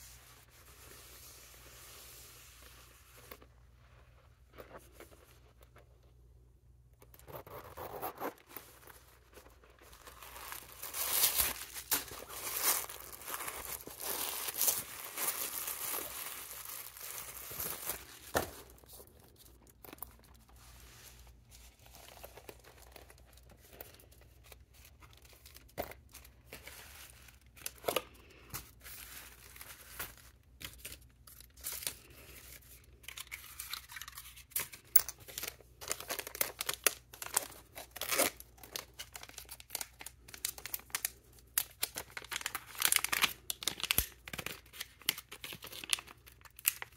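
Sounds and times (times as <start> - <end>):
packaging rustling and crinkling: 7.4 - 46.9.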